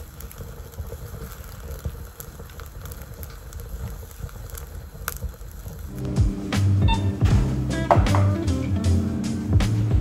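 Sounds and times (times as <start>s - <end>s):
fire crackling and popping: 0.0s - 10.0s
low uneven rumble: 0.0s - 10.0s.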